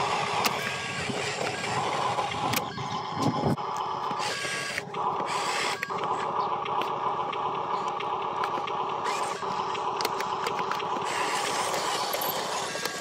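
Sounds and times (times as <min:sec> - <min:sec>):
toy truck motor whine: 0:00.0 - 0:13.0
clicks and rattles over dirt: 0:00.3 - 0:13.0.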